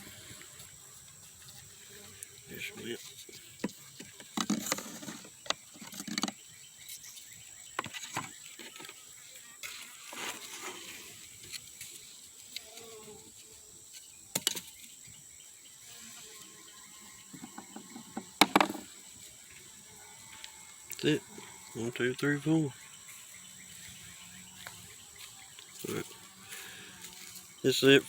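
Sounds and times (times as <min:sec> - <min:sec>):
hands handling beehive equipment: 0:00.0 - 0:15.0, 0:16.4 - 0:28.0
insect drone: 0:00.0 - 0:28.0.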